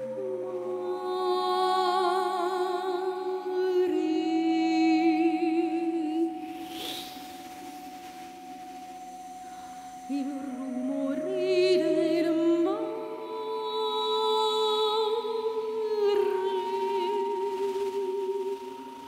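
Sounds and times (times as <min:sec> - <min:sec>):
electronic vocal drone: 0:00.0 - 0:19.0.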